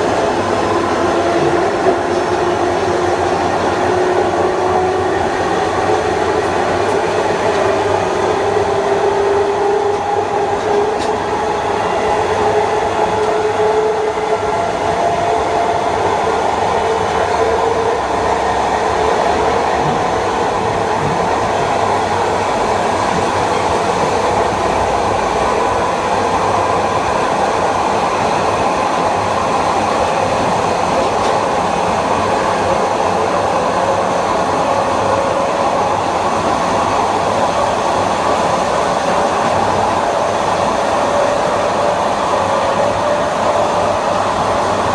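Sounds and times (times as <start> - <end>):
wheel and rail noise: 0.0 - 44.9.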